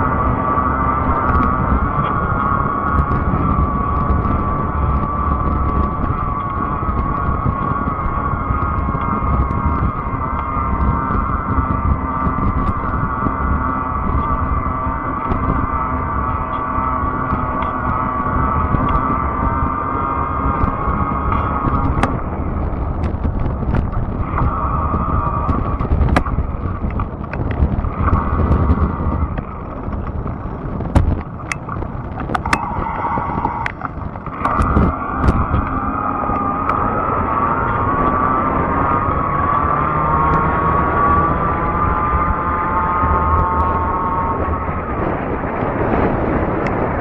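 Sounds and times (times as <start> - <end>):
electric bike drive whine: 0.0 - 47.0
low rumble: 0.0 - 47.0.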